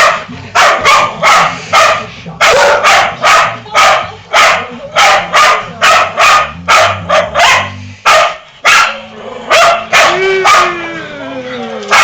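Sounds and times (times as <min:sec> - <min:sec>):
dog barking: 0:00.0 - 0:10.8.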